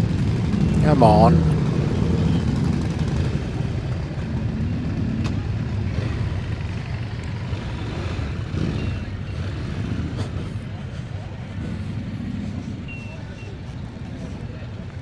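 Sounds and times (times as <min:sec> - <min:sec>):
motorcycle engine rumbling: 0:00.0 - 0:15.0
road and traffic noise: 0:00.0 - 0:15.0.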